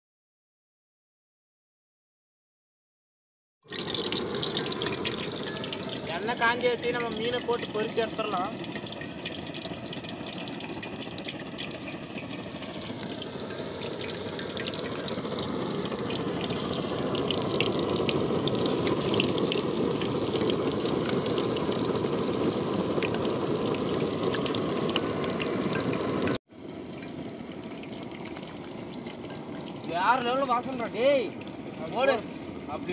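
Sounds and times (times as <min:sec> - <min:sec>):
battered fish sizzling in hot oil: 0:03.6 - 0:32.9.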